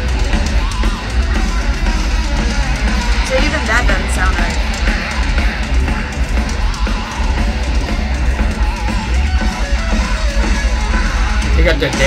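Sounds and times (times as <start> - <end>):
bass guitar: 0.0 - 12.0
distorted electric guitar with wah: 0.0 - 12.0
drums: 0.0 - 12.0.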